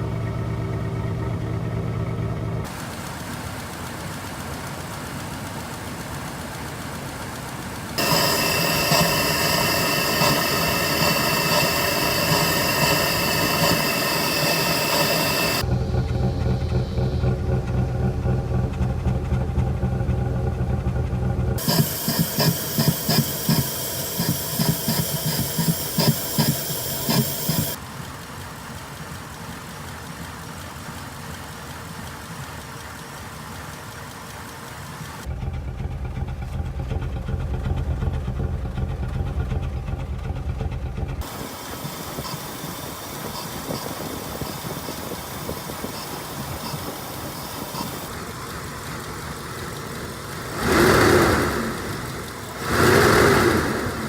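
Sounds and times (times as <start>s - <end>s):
car engine idling roughly: 0.0s - 54.0s.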